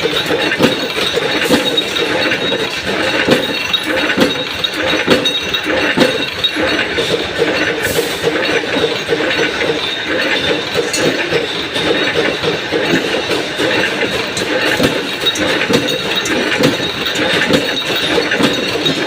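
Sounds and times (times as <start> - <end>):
machine clatter: 0.0 - 19.0
metal clinking: 0.0 - 19.0.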